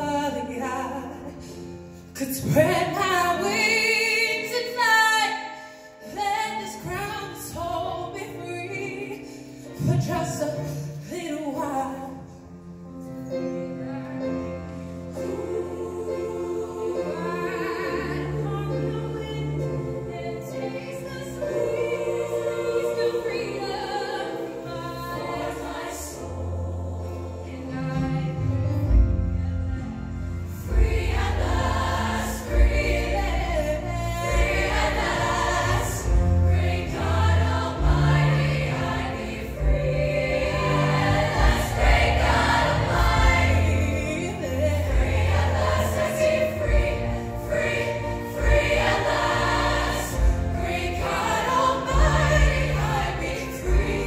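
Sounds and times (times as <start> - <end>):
choir singing: 2.2 - 10.9, 11.5 - 54.0.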